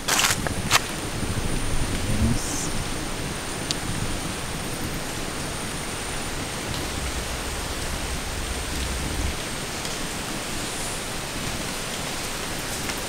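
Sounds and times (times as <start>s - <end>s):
steady outdoor hiss: 0.0s - 13.0s
low rumble: 0.9s - 11.8s.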